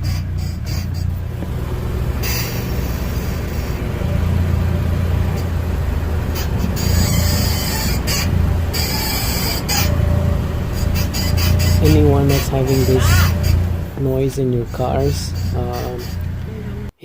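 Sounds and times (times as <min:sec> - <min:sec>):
harsh high-pitched suspension noise: 0:00.0 - 0:16.9
low suspension rumble: 0:00.0 - 0:16.9.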